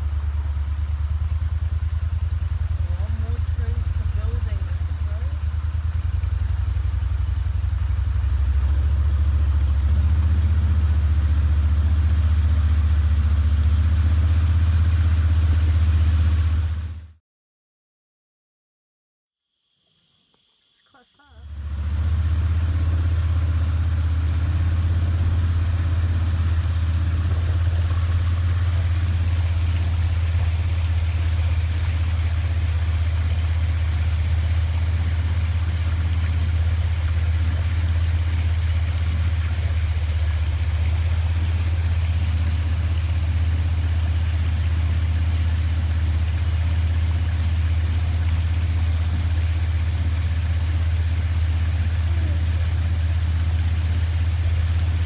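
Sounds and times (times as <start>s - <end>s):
boat engine droning: 0.0s - 17.1s, 20.9s - 55.0s.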